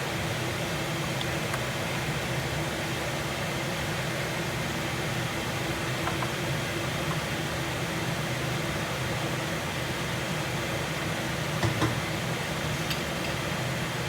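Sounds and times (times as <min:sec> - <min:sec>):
kitchen exhaust fan humming: 0:00.0 - 0:14.0.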